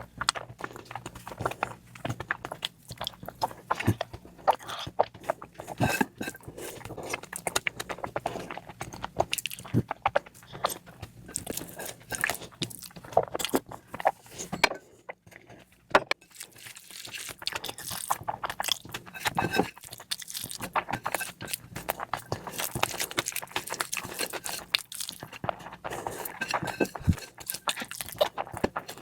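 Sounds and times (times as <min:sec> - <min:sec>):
person chewing and biting food: 0:00.2 - 0:14.5, 0:16.2 - 0:29.0.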